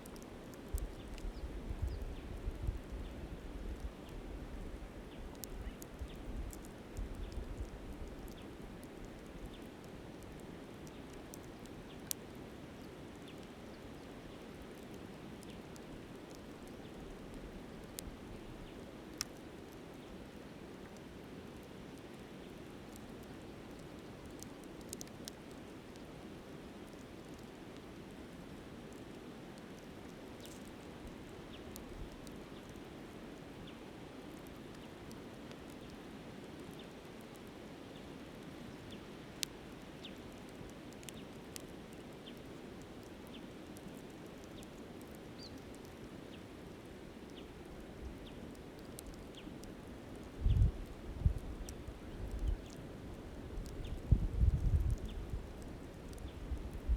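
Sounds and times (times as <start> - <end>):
campfire popping and crackling: 0.0 - 56.9.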